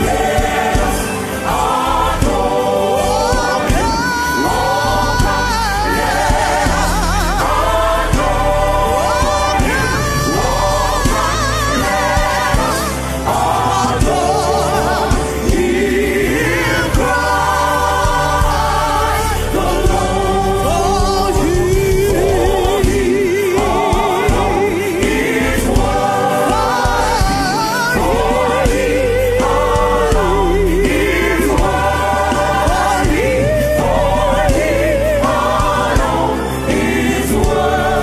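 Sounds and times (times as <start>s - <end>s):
band accompaniment with bass: 0.0s - 38.0s
gospel choir singing: 0.0s - 38.0s.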